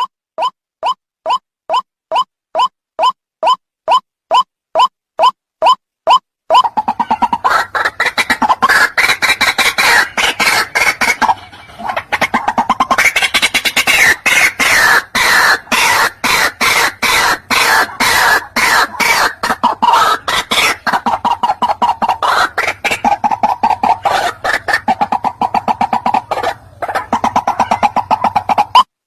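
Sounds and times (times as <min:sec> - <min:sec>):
bird harsh repeated calls: 0:00.0 - 0:28.9.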